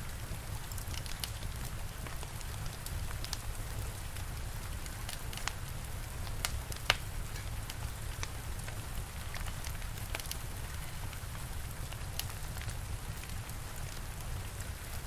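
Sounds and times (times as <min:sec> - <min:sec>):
steady rain: 0:00.0 - 0:15.0
fire crackling and popping: 0:00.1 - 0:15.0.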